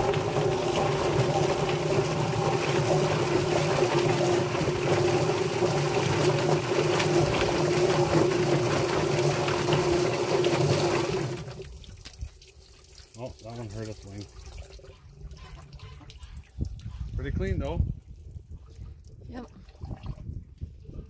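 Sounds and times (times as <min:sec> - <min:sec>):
water spraying in a drum: 0:00.0 - 0:20.1.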